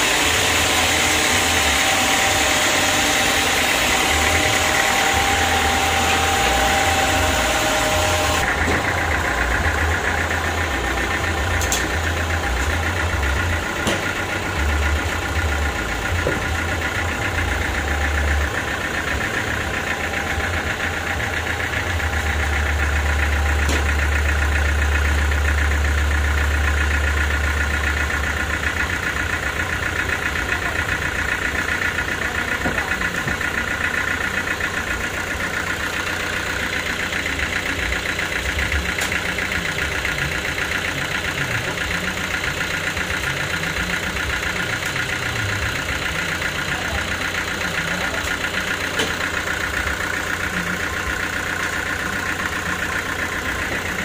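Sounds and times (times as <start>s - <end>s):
sawmill engine idling: 0.0s - 54.0s.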